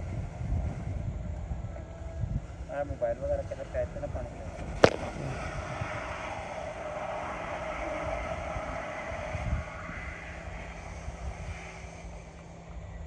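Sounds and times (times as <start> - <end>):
water spraying from a pipe: 2.3 - 12.8.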